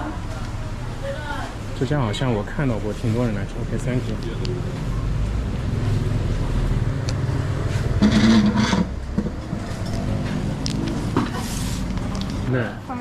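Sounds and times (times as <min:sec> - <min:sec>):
rumble of motor traffic: 0:00.0 - 0:13.0.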